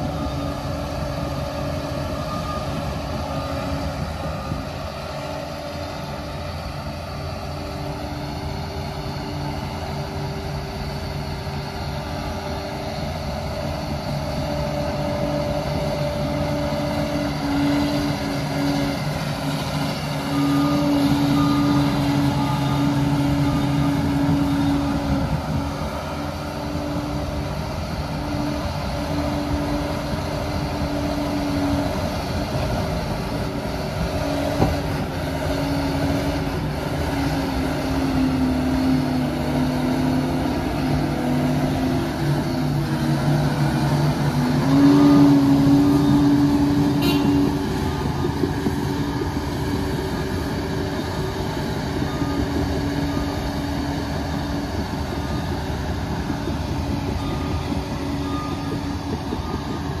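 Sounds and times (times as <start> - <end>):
dozer diesel engine under load: 0.0 - 60.0
reversing alarm beeping: 0.0 - 60.0.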